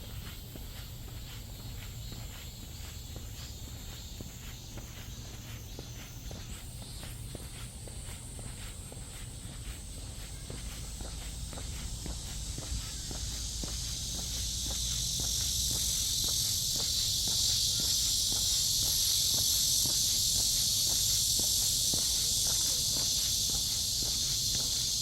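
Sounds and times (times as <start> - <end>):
cicadas buzzing: 0.0 - 25.0
footsteps on a path: 0.0 - 25.0.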